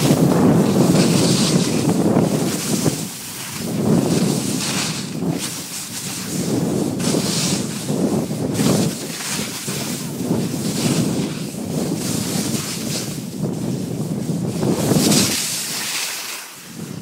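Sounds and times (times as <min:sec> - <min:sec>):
wind buffeting microphone: 0:00.0 - 0:16.0, 0:16.6 - 0:17.0
skis scraping over snow: 0:00.0 - 0:17.0.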